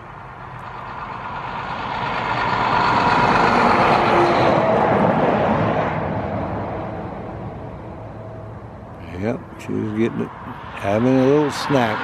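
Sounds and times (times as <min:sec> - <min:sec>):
road vehicle passing by: 0:00.0 - 0:12.0.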